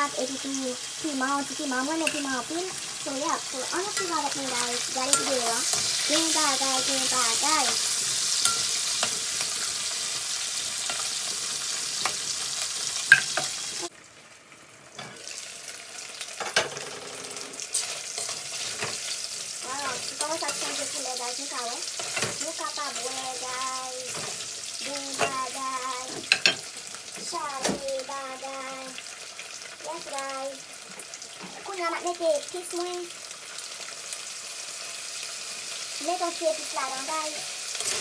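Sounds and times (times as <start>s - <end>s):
sausages sizzling in oil: 0.0s - 38.0s.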